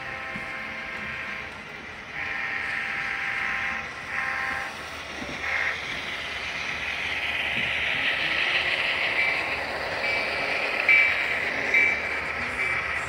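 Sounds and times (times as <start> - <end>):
model train hissing: 0.0 - 13.0.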